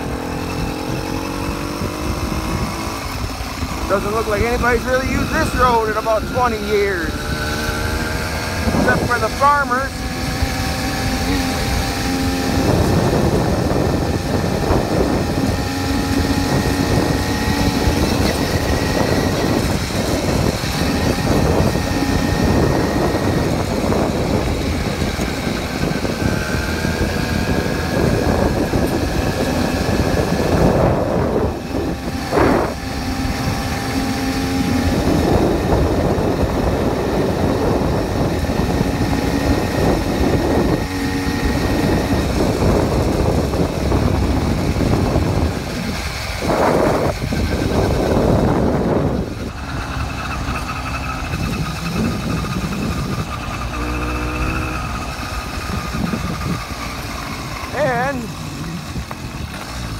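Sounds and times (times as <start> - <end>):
small motorbike engine running: 0.0 - 59.9.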